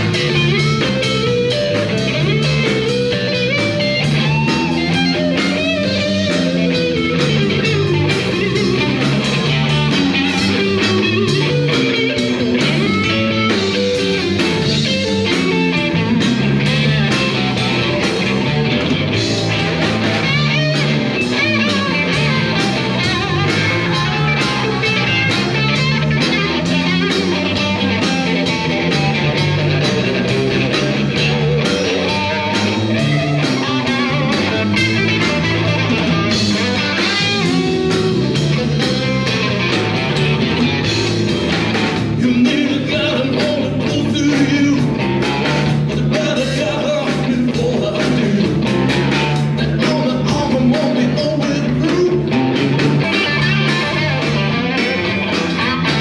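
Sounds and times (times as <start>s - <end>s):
bass guitar: 0.0s - 56.0s
blues-rock band playing: 0.0s - 56.0s
drum kit: 0.0s - 56.0s
electric guitar: 0.0s - 56.0s.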